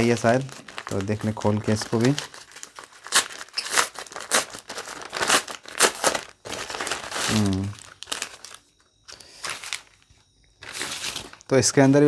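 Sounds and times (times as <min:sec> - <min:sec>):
paper mailer crumpled and torn: 0:00.0 - 0:12.0.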